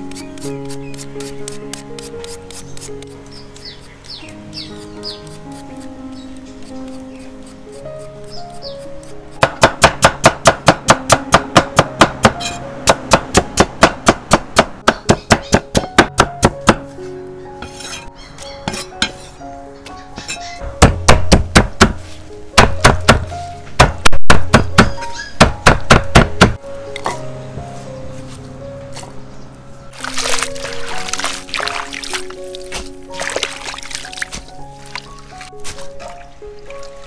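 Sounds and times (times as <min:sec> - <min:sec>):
background music: 0:00.0 - 0:37.0.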